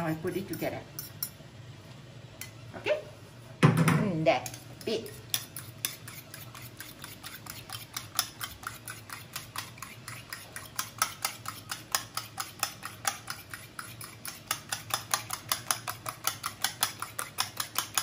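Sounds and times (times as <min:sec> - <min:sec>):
fork beating eggs in metal bowl: 0:00.0 - 0:01.4, 0:04.4 - 0:18.0.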